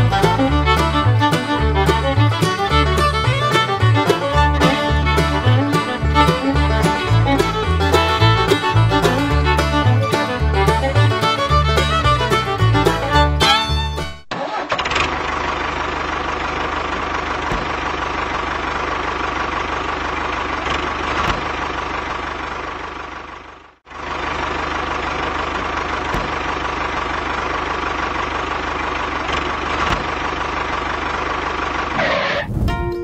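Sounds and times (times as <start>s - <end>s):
engine humming: 0.0s - 33.0s.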